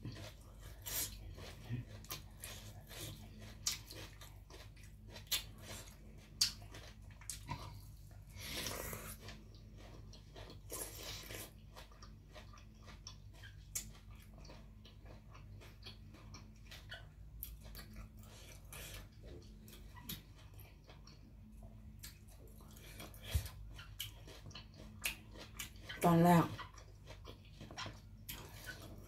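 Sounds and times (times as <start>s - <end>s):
wet chewing mouth clicks: 0.1s - 21.4s, 22.0s - 29.0s.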